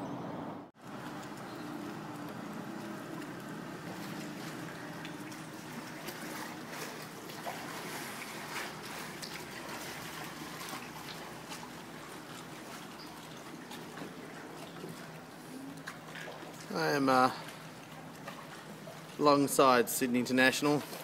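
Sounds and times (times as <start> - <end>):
paddle dripping and splashing: 0.8 - 19.5
steady wash of water: 0.8 - 21.0
water trickling: 0.8 - 21.0.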